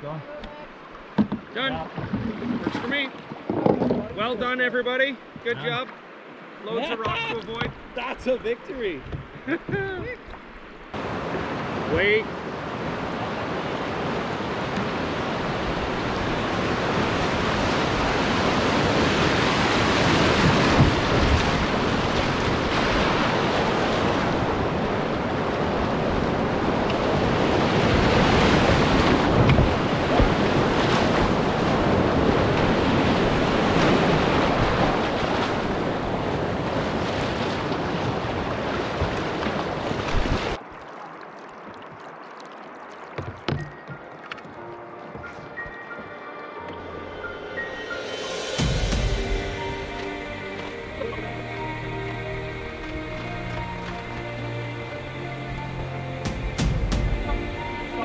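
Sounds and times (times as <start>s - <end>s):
whitewater rapids rushing and splashing: 0.0s - 46.0s, 48.6s - 58.0s.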